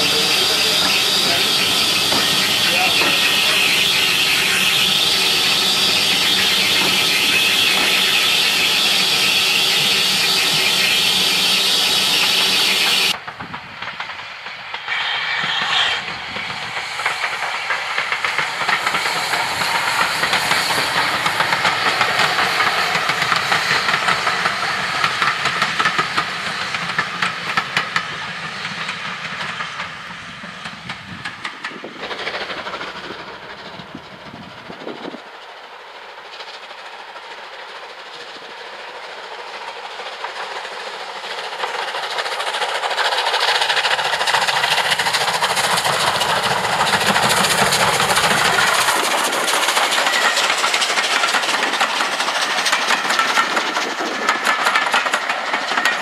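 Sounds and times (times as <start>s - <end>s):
steam hissing: 0.0s - 56.0s
train wheels clicking over rail joints: 0.0s - 56.0s.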